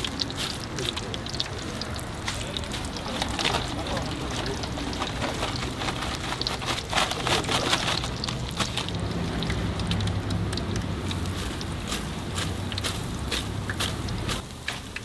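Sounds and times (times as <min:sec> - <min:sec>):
hot oil sizzling and crackling: 0:00.0 - 0:15.0.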